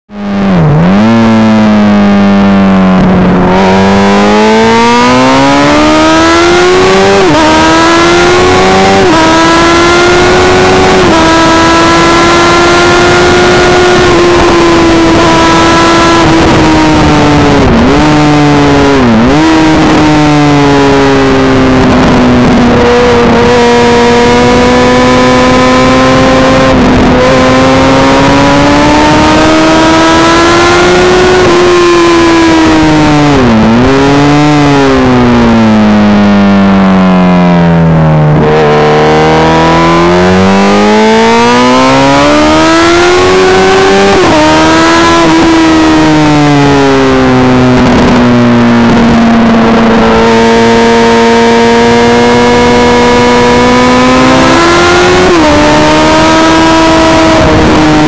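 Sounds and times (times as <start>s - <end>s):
motorcycle engine revving: 0.1s - 58.0s.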